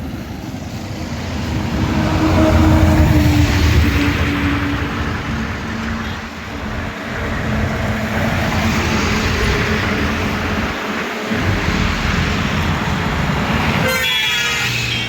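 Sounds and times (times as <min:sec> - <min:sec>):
highway traffic rushing: 0:00.0 - 0:15.0.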